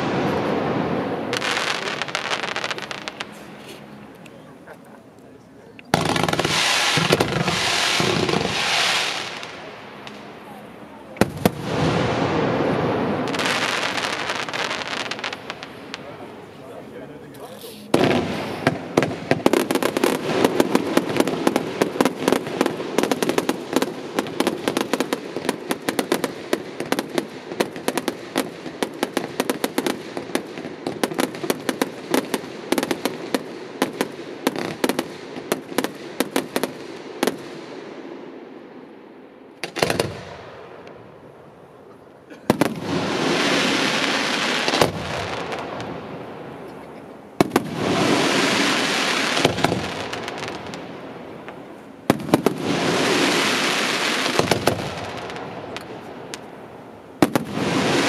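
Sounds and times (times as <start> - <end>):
fireworks bangs and crackles: 0.0 - 58.0
hiss of crackling fireworks: 0.0 - 58.0.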